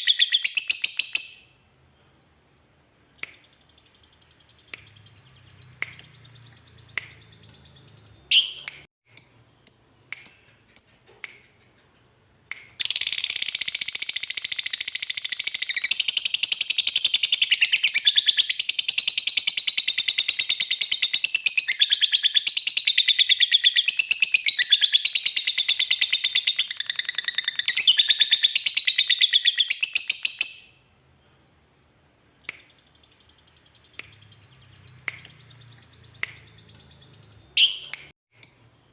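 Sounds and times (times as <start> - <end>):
bird chirps and clicks: 0.0 - 38.9.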